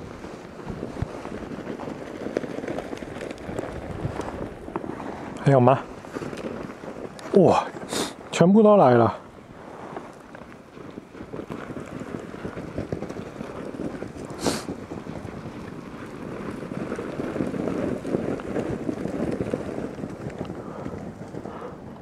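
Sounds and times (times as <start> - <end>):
hooves trampling over snow: 0.0 - 22.0.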